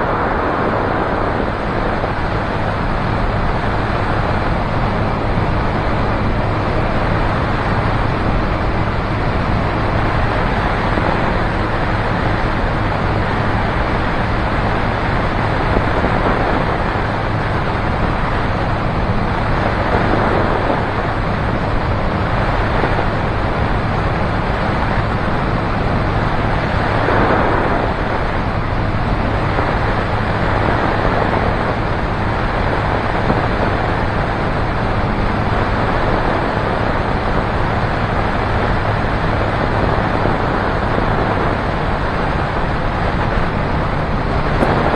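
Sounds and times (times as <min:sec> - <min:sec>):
light aircraft engine and propeller drone: 0:00.0 - 0:44.9
wind rushing over microphone: 0:00.0 - 0:44.9.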